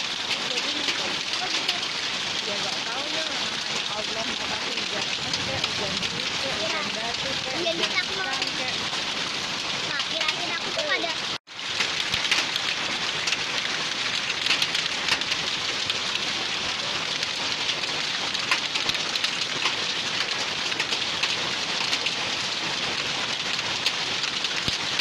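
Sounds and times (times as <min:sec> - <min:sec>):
hailstones hitting: 0:00.0 - 0:25.0
rain pattering on roofs: 0:00.0 - 0:25.0.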